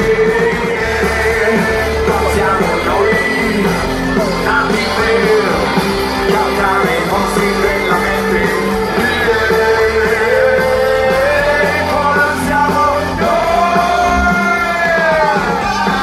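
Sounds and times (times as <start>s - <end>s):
live rock band playing: 0.0s - 16.0s
man singing: 0.0s - 16.0s.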